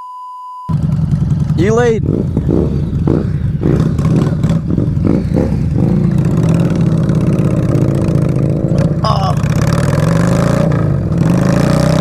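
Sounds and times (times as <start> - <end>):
motorcycle engine running: 0.7 - 12.0.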